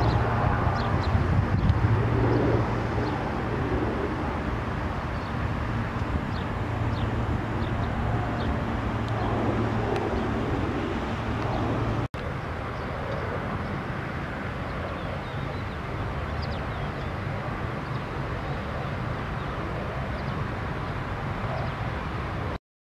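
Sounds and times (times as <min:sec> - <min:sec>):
distant road traffic: 0:00.0 - 0:22.6.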